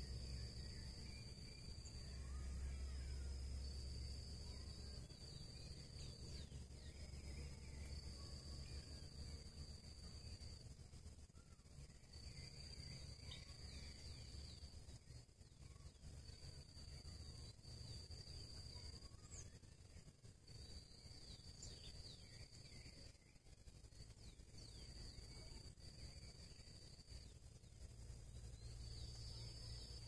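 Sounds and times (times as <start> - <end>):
faint bird chirps: 0.0 - 30.0
high-pitched insect trill: 0.0 - 30.0
low background rumble: 0.0 - 30.0.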